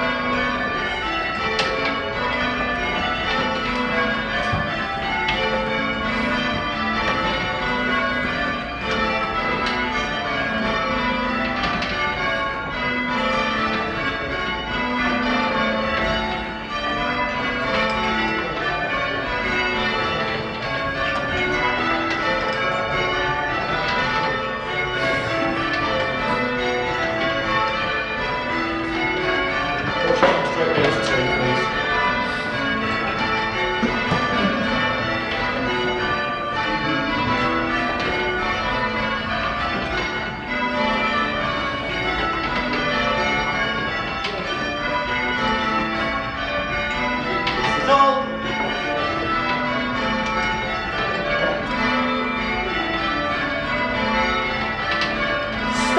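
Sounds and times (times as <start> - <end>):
church bells change ringing: 0.0 - 55.9.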